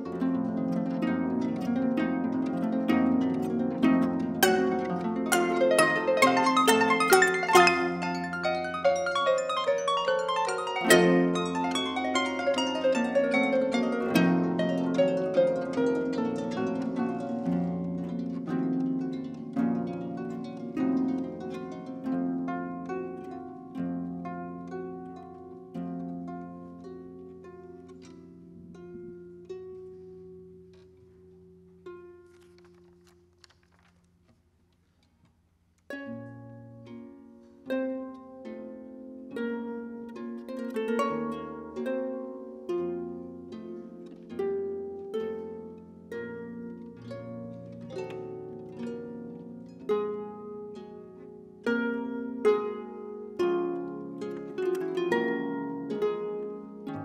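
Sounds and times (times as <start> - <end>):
concert harps playing a duet: 0.0 - 33.9, 35.8 - 57.0.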